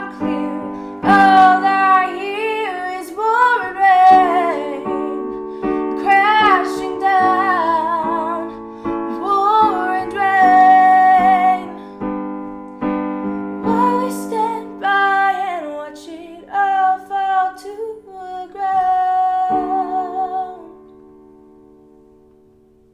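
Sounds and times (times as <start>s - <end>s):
woman singing: 0.0s - 11.9s, 13.6s - 20.8s
piano chords: 0.0s - 22.9s.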